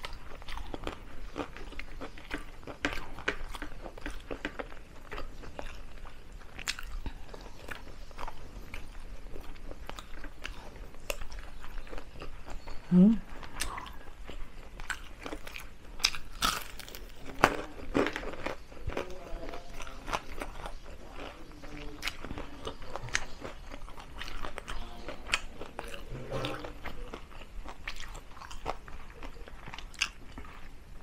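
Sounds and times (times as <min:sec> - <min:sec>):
crunching and chewing crispy food: 0:00.0 - 0:31.0.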